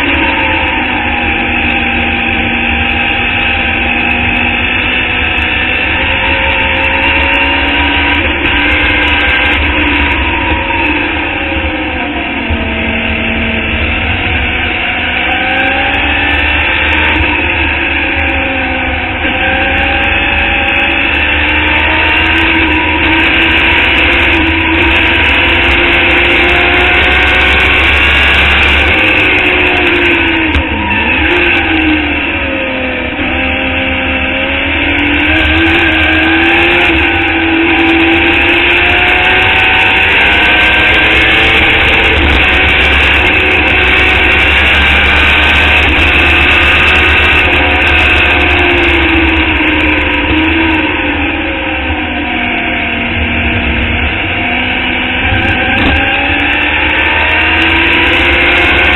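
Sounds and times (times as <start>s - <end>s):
race car engine running hard: 0.0s - 58.9s.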